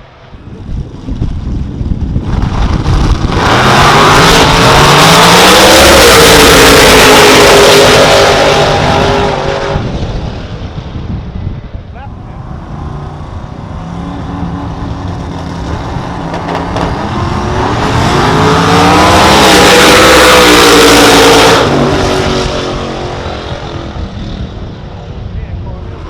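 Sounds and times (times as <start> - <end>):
race car engine at full throttle: 0.0 - 26.0.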